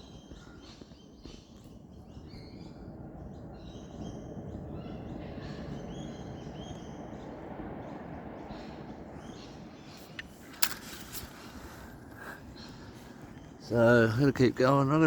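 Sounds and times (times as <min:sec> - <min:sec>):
birds chirping: 0:00.0 - 0:15.0
wind noise: 0:00.0 - 0:15.0.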